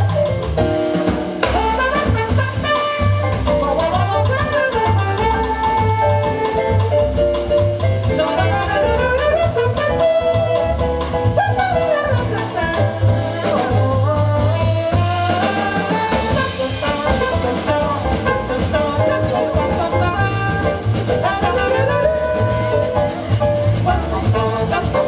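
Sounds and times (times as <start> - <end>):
jazz band playing samba: 0.0 - 25.0
trumpet: 1.4 - 7.4, 8.2 - 25.0.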